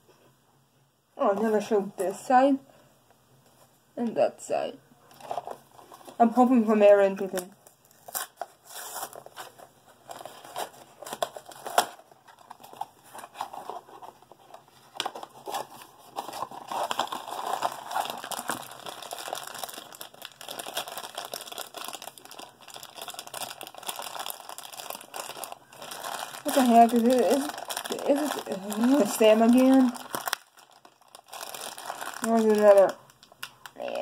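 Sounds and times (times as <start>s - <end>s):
packaging crinkling and tearing: 5.1s - 6.4s, 7.2s - 34.0s.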